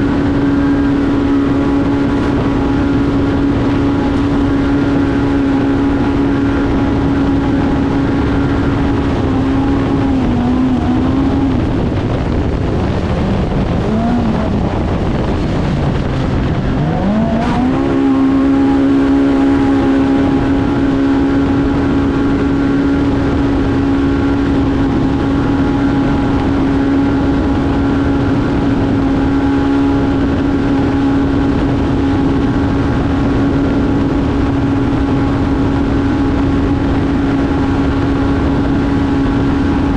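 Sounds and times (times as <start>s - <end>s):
engine revving at high revs: 0.0s - 33.6s
wind and tyre noise: 0.0s - 39.9s.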